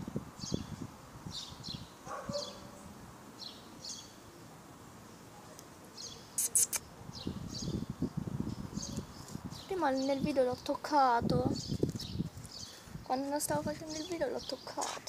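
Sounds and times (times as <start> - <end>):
small birds chirping: 0.4 - 4.4, 5.0 - 15.0.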